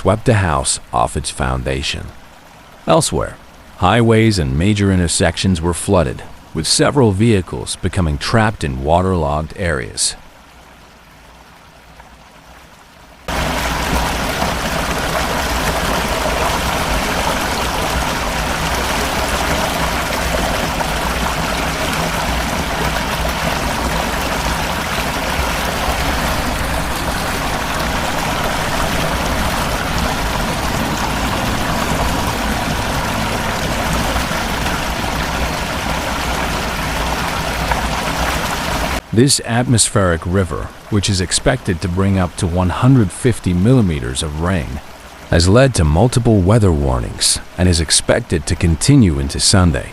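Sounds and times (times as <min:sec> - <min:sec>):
floodwater rushing: 0:00.0 - 0:49.9.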